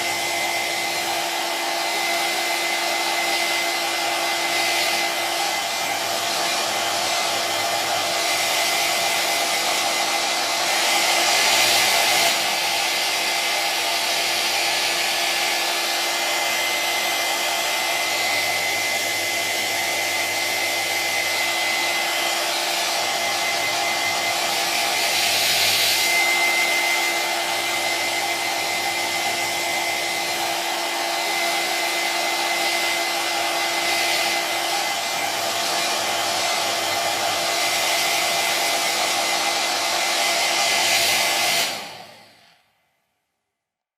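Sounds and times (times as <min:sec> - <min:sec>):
hair dryer running: 0:00.0 - 0:42.7.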